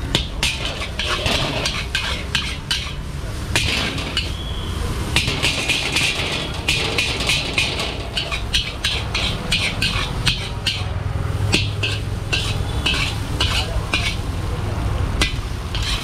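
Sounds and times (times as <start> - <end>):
metal spatula scraping a wok: 0.0 - 14.3, 15.2 - 16.0.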